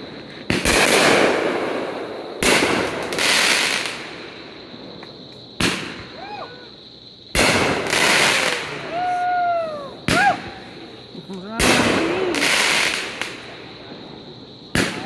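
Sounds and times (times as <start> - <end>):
fireworks crackling: 0.0 - 6.4, 7.3 - 15.0
fireworks bursting with bangs: 0.0 - 6.6, 7.3 - 15.0.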